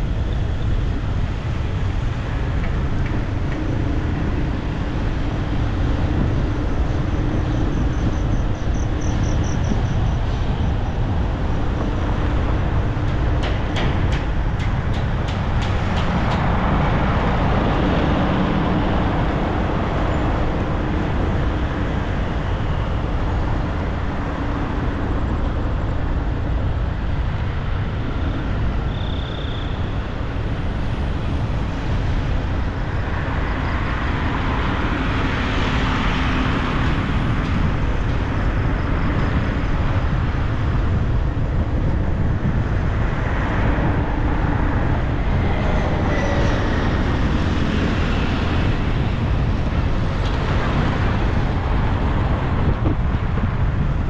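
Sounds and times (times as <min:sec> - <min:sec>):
cars and motorbikes passing: 0:00.0 - 0:54.0
road traffic rumble: 0:00.0 - 0:54.0.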